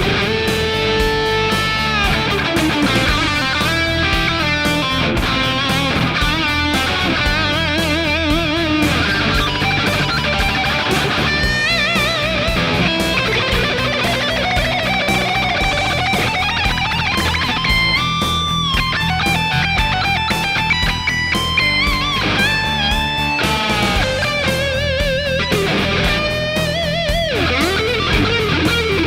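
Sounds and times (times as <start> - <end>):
distorted electric guitar: 0.0 - 29.0
steady beat: 0.0 - 29.0.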